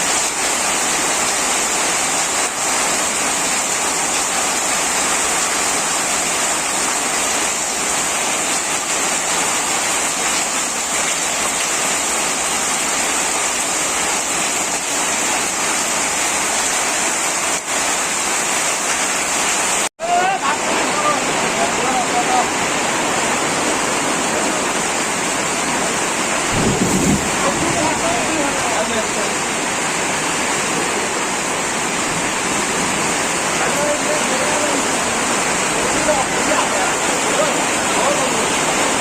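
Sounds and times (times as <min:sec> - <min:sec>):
heavy rain: 0:00.0 - 0:39.0.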